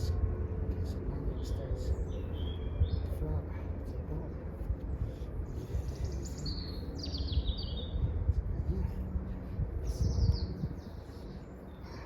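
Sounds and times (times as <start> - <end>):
low rumble: 0.0 - 12.0
songbird singing: 0.0 - 12.0.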